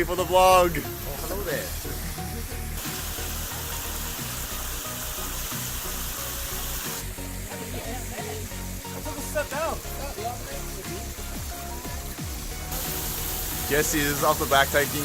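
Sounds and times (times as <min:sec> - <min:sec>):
background music with beat: 0:00.0 - 0:15.0
cascading water rushing: 0:00.0 - 0:15.0.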